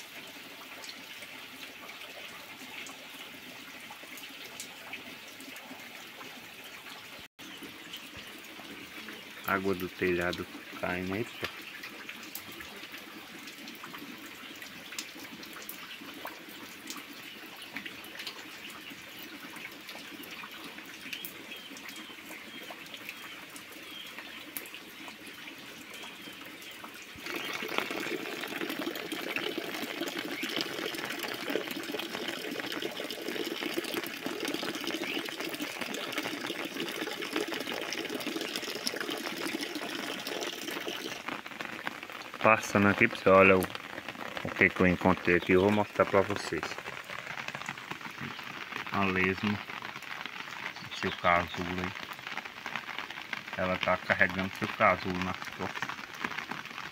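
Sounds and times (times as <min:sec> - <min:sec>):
rain splashing into puddle: 0:00.0 - 0:56.9.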